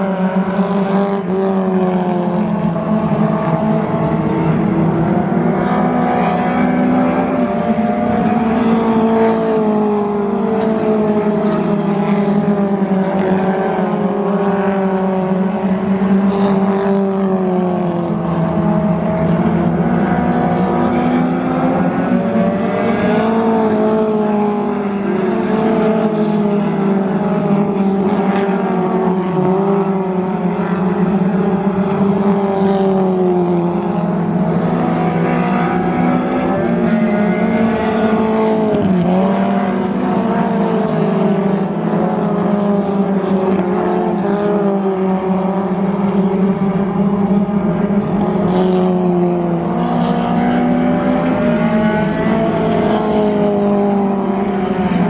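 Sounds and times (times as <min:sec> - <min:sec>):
stock car engines racing: 0:00.0 - 0:55.0.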